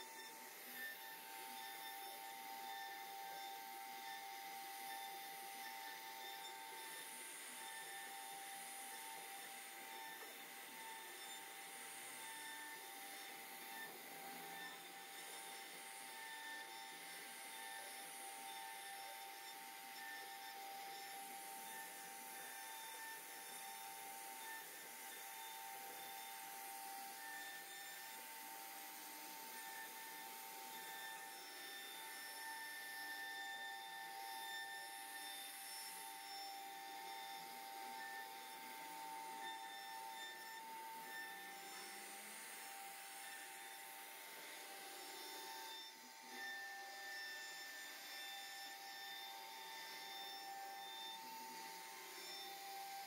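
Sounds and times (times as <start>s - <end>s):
router spindle whining: 0.0s - 53.0s.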